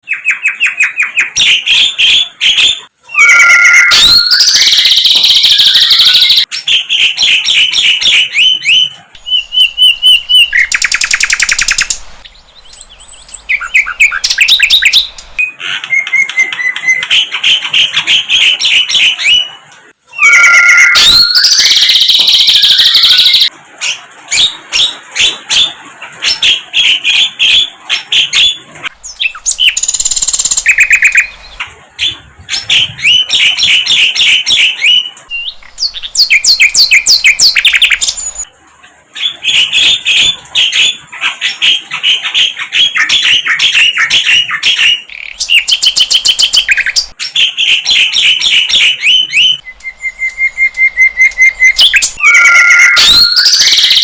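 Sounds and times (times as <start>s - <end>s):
bird singing chirps and trills: 0.0s - 19.6s, 20.2s - 38.5s, 39.1s - 54.0s.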